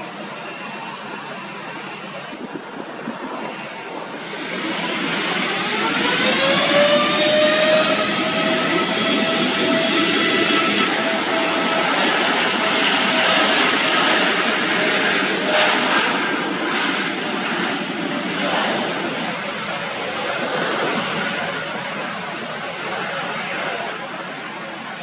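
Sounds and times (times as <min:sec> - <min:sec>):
airliner engine rush with whine: 0:00.0 - 0:25.0.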